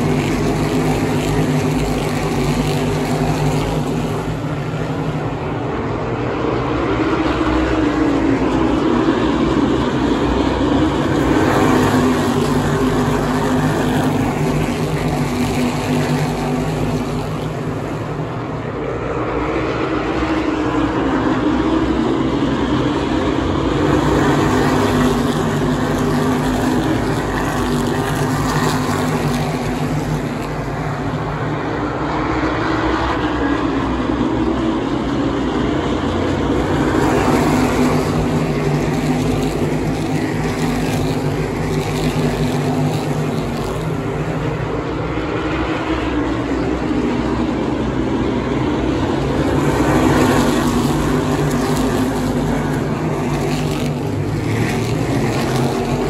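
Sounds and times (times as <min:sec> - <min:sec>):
race car engines at speed: 0:00.0 - 0:56.0.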